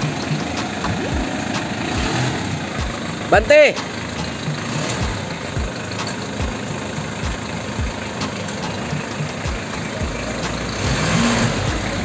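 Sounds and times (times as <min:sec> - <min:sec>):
van engine running at low speed: 0:00.0 - 0:12.0.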